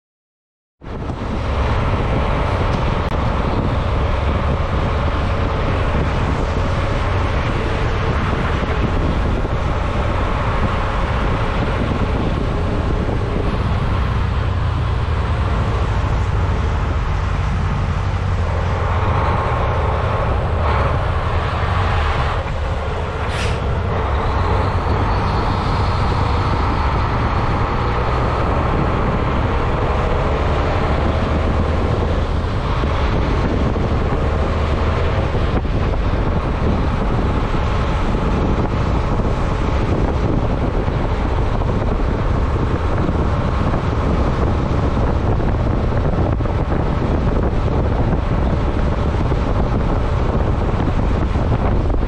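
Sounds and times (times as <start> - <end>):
road noise: 0.8 - 52.0
truck diesel engine rumble: 0.8 - 52.0.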